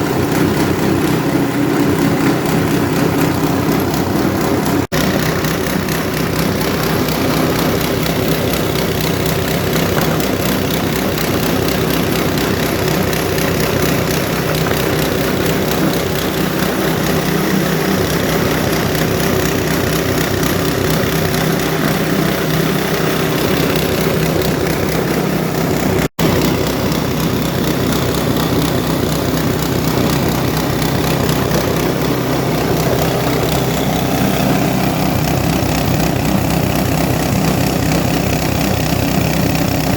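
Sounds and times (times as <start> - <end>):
shredding machine drone: 0.0 - 39.9.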